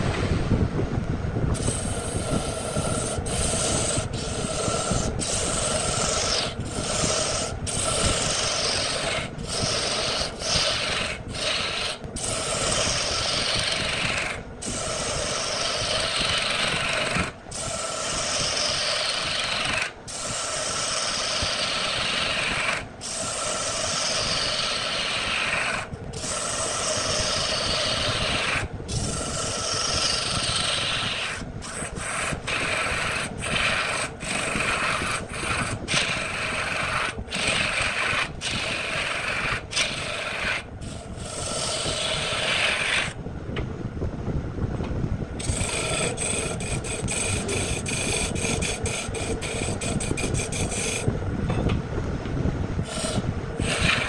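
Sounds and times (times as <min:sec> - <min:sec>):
lathe gouge cutting wood: 0:01.6 - 0:43.2, 0:45.4 - 0:51.0, 0:52.8 - 0:54.0.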